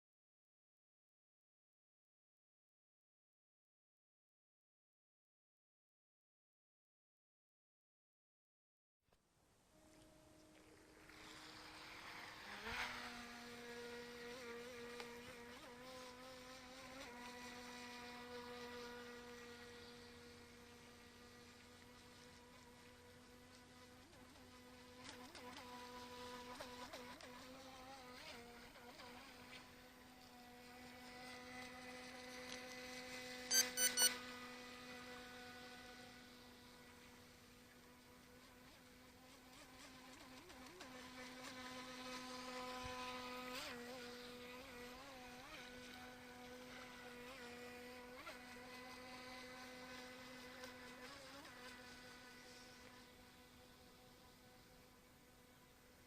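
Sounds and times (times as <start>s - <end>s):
small boat motor buzzing: 9.7s - 56.0s.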